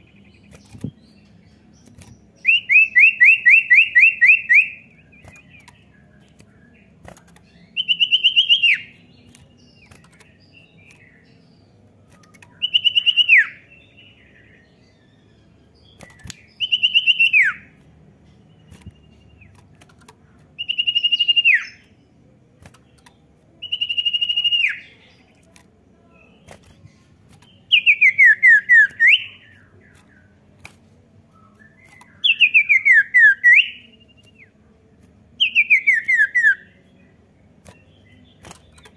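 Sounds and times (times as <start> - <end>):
bird singing whistled notes: 0.0 - 17.8, 20.6 - 22.0, 23.0 - 25.3, 27.4 - 30.3, 31.3 - 34.6, 35.4 - 38.9.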